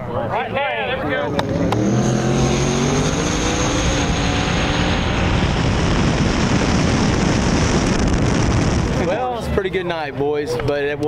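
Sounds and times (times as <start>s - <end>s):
drag race car engine full throttle: 0.0s - 9.2s.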